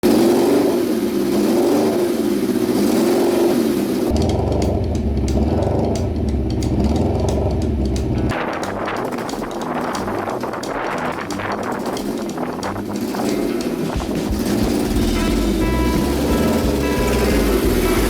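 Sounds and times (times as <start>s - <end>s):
motorcycle engine revving: 0.0s - 18.0s
rapid ticking: 0.0s - 18.0s.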